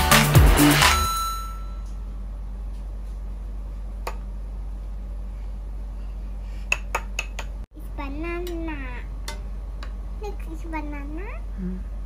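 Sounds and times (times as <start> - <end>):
low room hum: 1.1 - 12.0.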